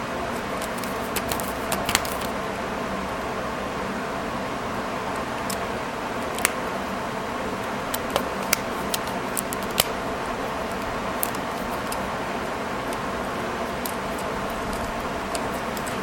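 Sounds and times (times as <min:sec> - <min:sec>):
fan-like hum: 0:00.0 - 0:16.0.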